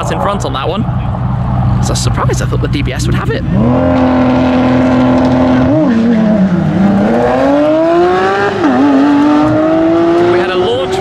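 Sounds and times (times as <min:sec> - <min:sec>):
cars accelerating hard: 0:00.0 - 0:11.0
sports car engines revving: 0:00.0 - 0:11.0.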